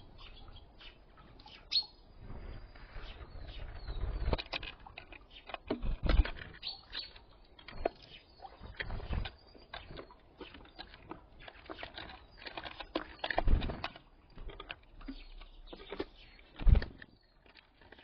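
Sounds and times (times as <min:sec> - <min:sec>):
birds pecking on feeder: 0:02.3 - 0:18.0.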